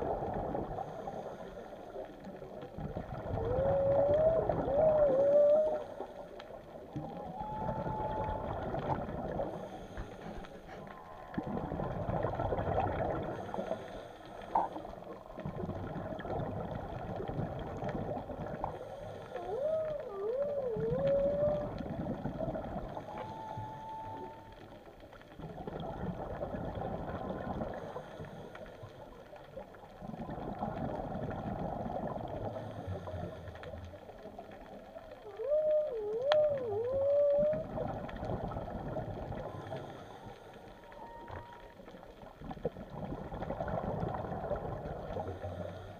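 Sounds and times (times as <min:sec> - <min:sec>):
diver breathing and bubbles: 0:00.0 - 0:45.9
whale song underwater: 0:00.0 - 0:45.9.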